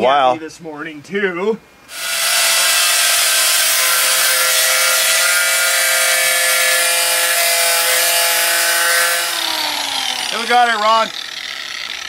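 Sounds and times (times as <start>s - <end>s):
angle grinder grinding steel: 1.9s - 12.0s.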